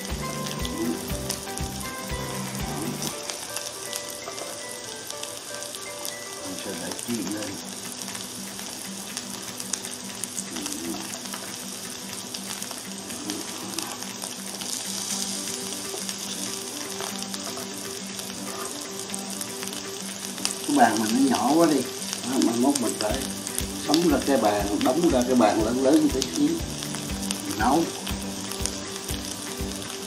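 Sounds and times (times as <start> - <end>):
potatoes sizzling in skillet: 0.0 - 30.0.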